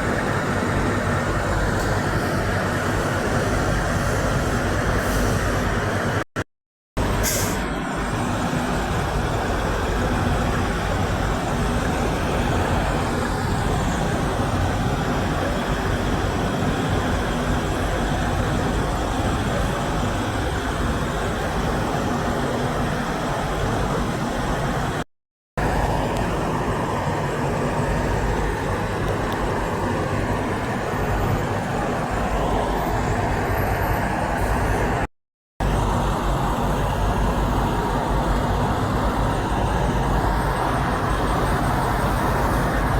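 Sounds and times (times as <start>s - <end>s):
highway traffic rumble: 0.0s - 6.4s, 7.0s - 42.9s.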